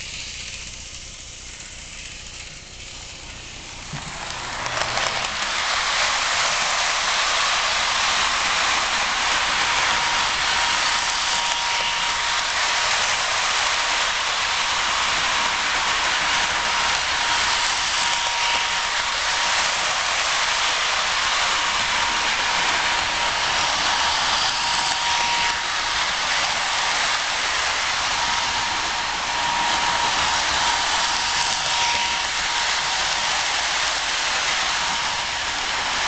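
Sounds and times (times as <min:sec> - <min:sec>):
toy train whirring rattle: 0:00.0 - 0:36.0.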